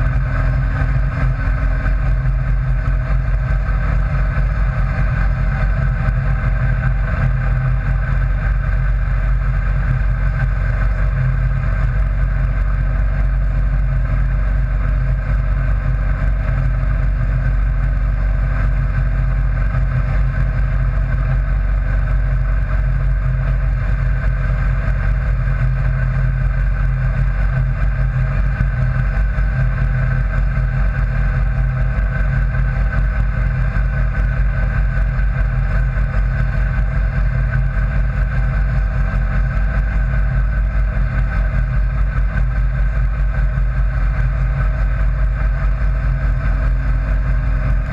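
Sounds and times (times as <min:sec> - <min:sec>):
vehicle engine droning: 0:00.0 - 0:47.9.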